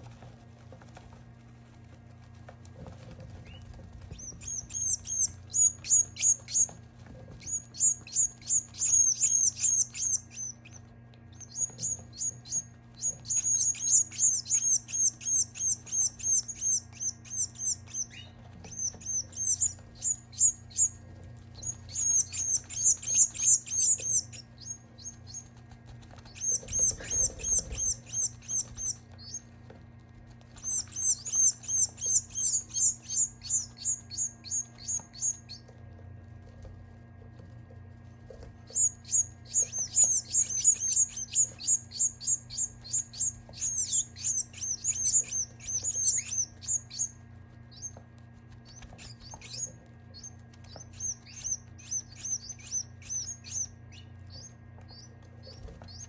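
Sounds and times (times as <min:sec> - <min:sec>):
steady low hum: 0:00.0 - 0:56.0
baby birds chirping: 0:03.3 - 0:29.5, 0:30.3 - 0:35.8, 0:38.4 - 0:56.0.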